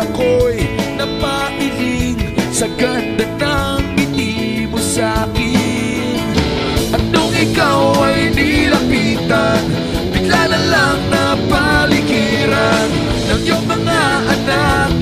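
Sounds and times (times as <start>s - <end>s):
rock song with vocals and guitars: 0.0s - 15.0s.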